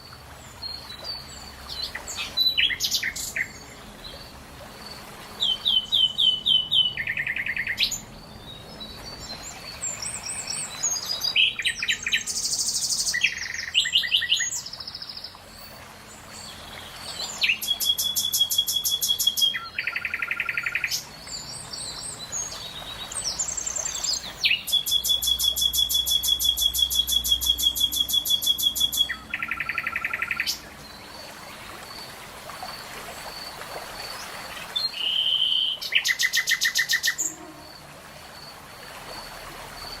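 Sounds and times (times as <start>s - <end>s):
songbirds trilling and chirping: 0.0s - 40.0s.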